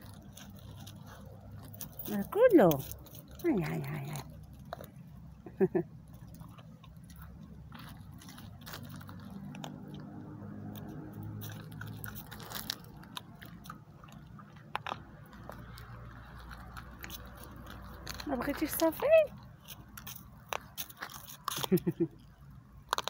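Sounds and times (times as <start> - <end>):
dog chewing and crunching food: 0.0 - 23.0.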